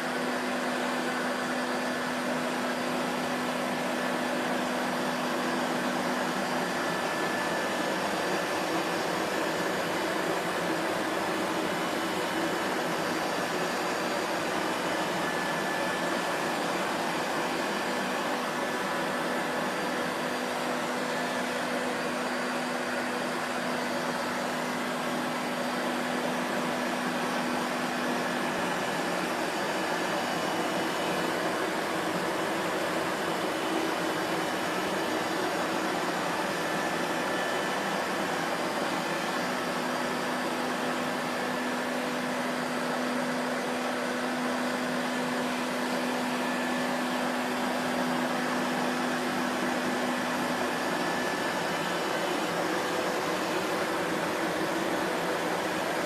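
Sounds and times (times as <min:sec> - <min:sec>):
vacuum cleaner motor running: 0:00.0 - 0:56.0.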